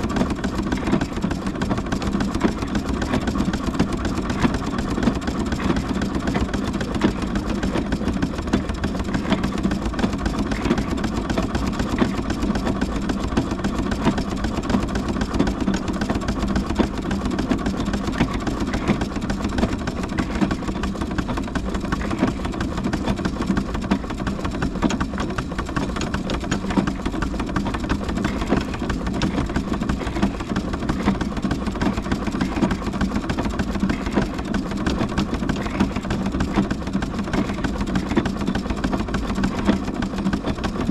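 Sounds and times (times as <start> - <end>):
constant hum: 0.0 - 40.9
steam engine mechanical clatter: 0.0 - 40.9.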